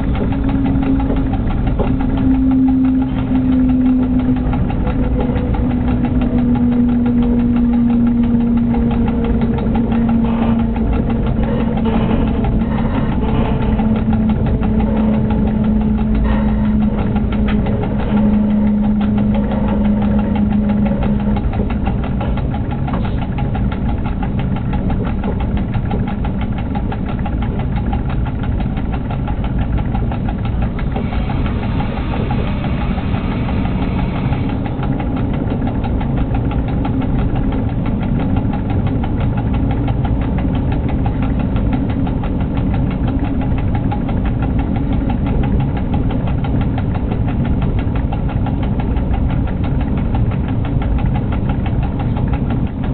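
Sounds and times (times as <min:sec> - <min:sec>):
locomotive cab rumble: 0:00.0 - 0:52.9
low hum: 0:00.0 - 0:52.9.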